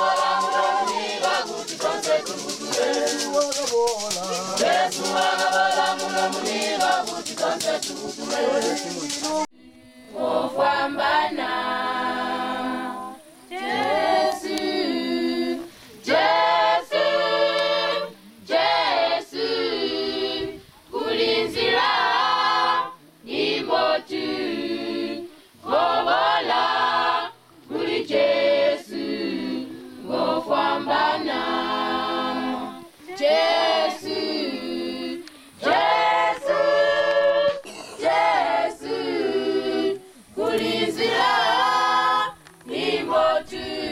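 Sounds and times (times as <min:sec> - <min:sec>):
choir singing a cappella: 0:00.0 - 0:43.9.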